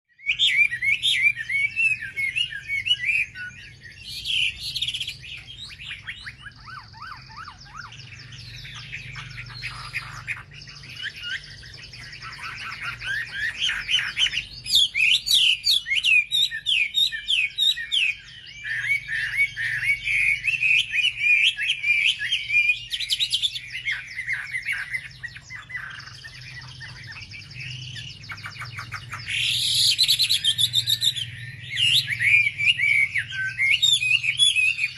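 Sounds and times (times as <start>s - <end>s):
songbird trills and chirps: 0.1s - 34.9s.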